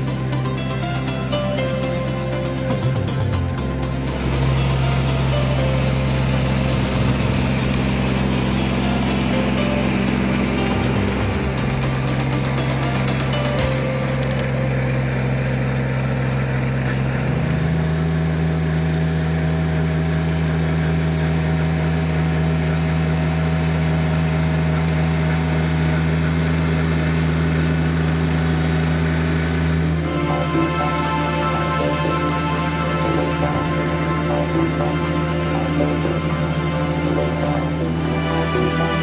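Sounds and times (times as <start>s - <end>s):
loader engine running: 0.0s - 39.0s.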